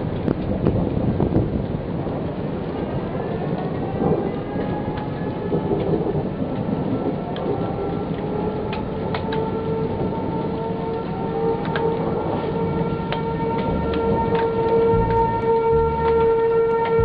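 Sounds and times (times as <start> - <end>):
heavy rain: 0.0 - 17.0
low rumble of thunder: 0.0 - 17.0.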